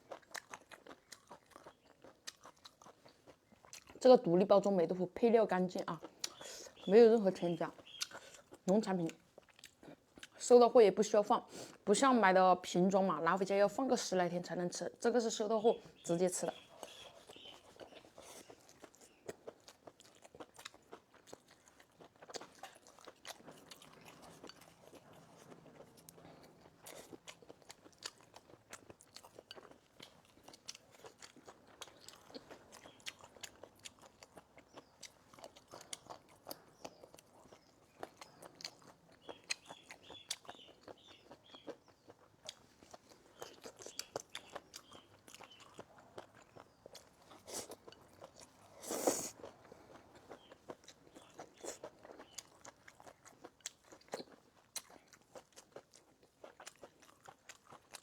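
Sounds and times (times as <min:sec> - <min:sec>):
person chewing and crunching food: 0:00.0 - 0:04.0, 0:05.8 - 0:10.4, 0:16.5 - 0:58.0.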